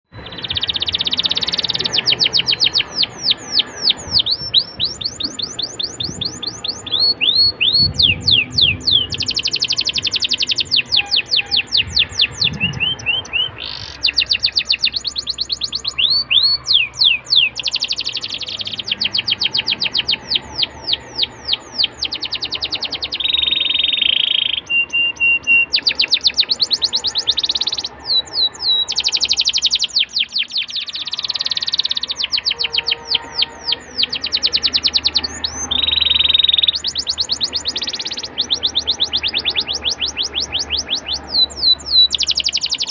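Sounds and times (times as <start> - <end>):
canary trilling: 0.1 - 42.9.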